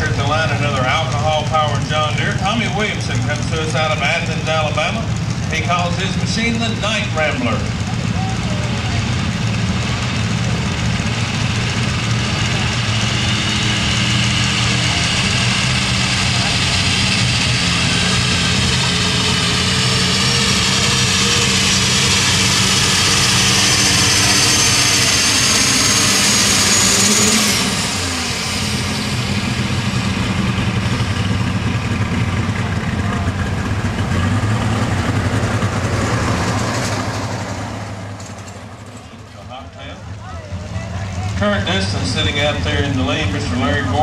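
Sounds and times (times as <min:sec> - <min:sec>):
tractor engine running under load: 0:00.0 - 0:44.0.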